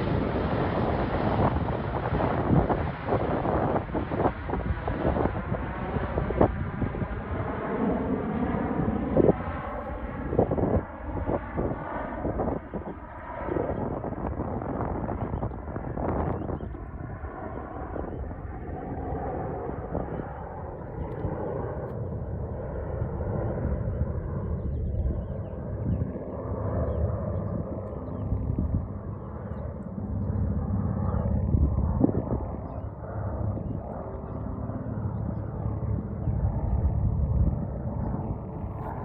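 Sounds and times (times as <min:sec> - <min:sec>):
aircraft rotor and engine drone: 0:00.0 - 0:39.0
wind on microphone: 0:00.0 - 0:39.0.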